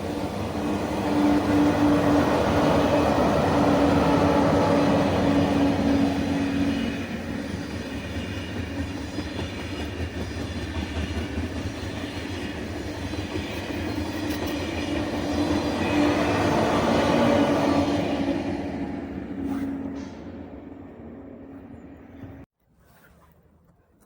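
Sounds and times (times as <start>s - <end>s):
train wheels rumbling on rails: 0.0s - 22.5s.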